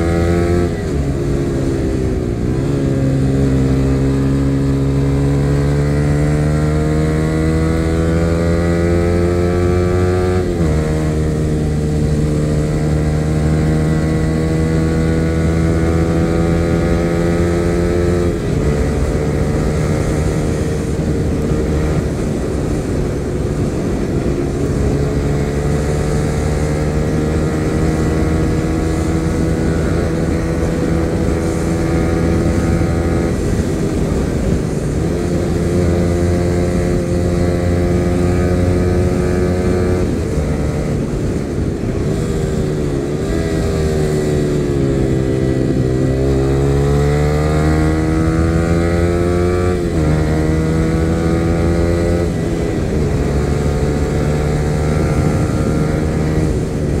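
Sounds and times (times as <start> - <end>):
wind rush: 0.0 - 57.0.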